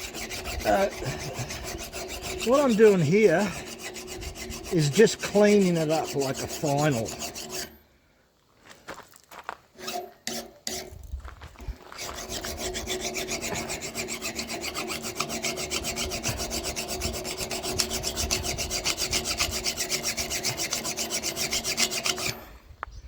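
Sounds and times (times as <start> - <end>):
file rubbing on axe edge: 0.0 - 7.8, 9.8 - 11.0, 11.9 - 22.5.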